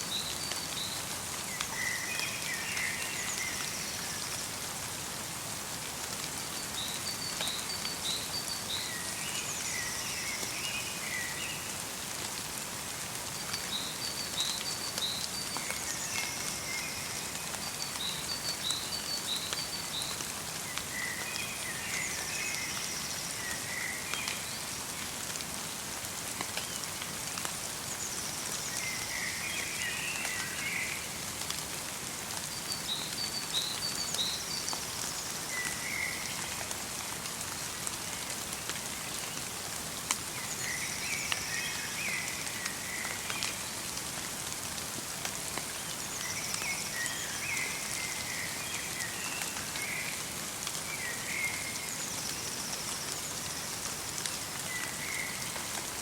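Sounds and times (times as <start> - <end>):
light rain in a forest: 0.0 - 56.0.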